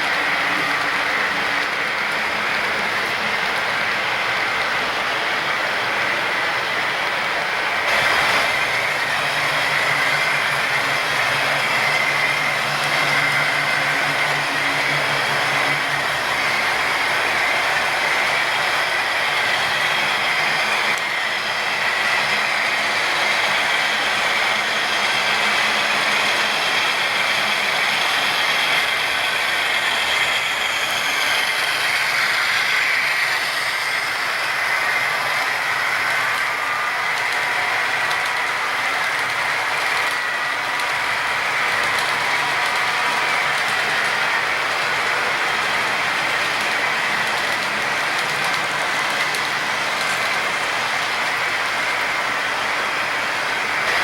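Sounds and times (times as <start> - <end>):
model train motor whine: 0.0 - 54.0
wheels rattling on rails: 0.0 - 54.0.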